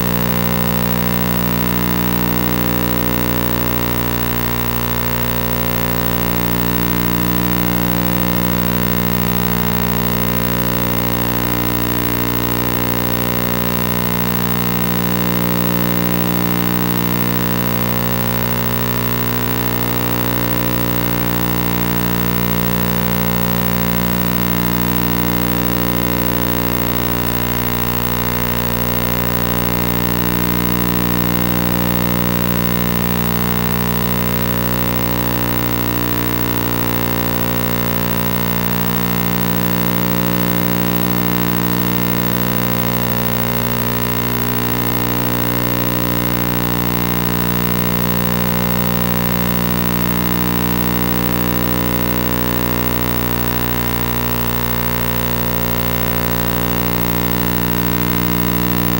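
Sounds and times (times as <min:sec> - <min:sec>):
loud droning hum: 0:00.0 - 0:58.9.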